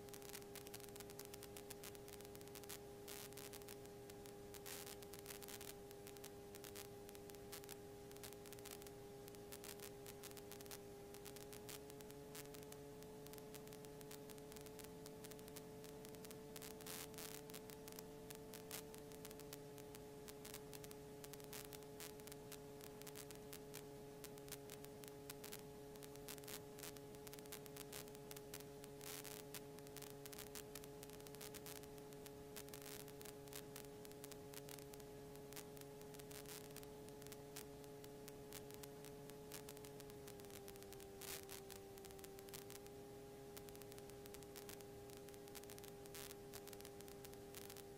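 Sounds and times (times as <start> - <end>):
crackling static: 0.0 - 47.9
faint electrical hum: 0.0 - 47.9.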